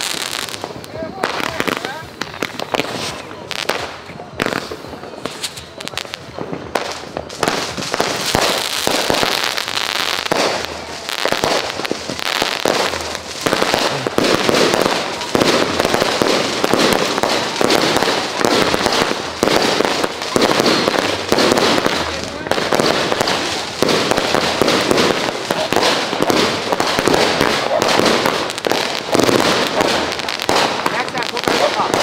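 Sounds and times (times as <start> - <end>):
fireworks pops and crackles: 0.0 - 32.0.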